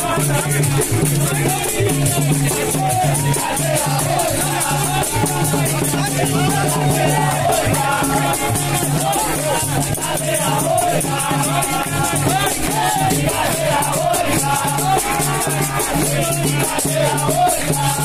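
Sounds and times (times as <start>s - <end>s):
berimbaus playing rhythm: 0.0s - 18.0s
voices singing: 0.0s - 18.0s.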